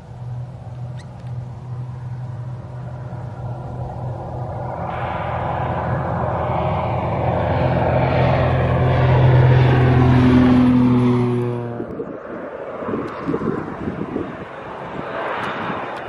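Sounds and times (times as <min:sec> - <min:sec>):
propeller plane flying by: 0:00.0 - 0:16.0.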